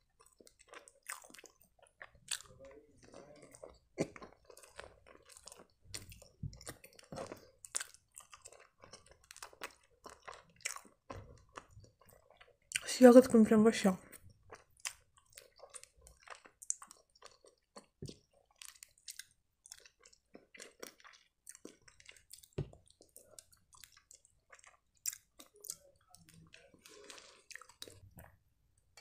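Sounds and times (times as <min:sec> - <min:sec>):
close-up chewing: 0:00.0 - 0:13.0, 0:14.0 - 0:29.0.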